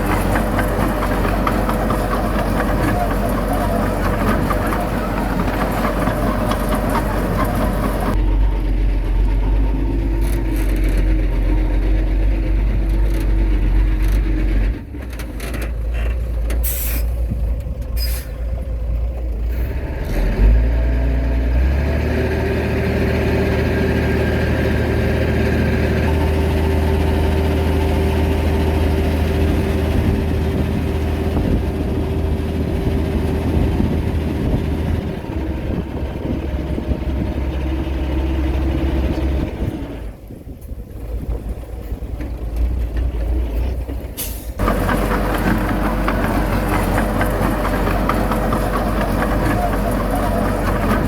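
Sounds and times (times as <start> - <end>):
heavy machinery diesel engines: 0.0 - 51.0.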